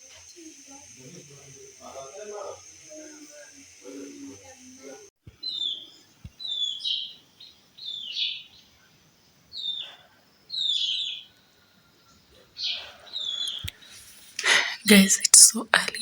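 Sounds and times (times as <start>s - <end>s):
bird chirping: 0.0s - 15.5s.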